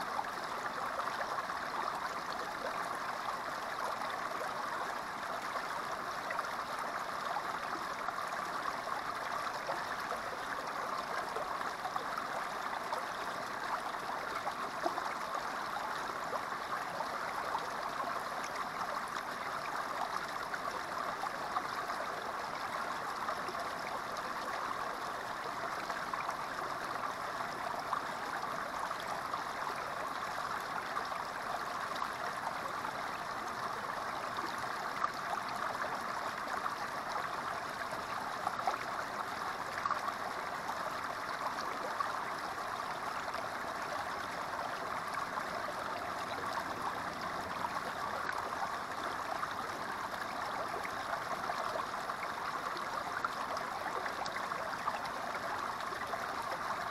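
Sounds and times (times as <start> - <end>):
creek babbling and splashing: 0.0 - 56.9.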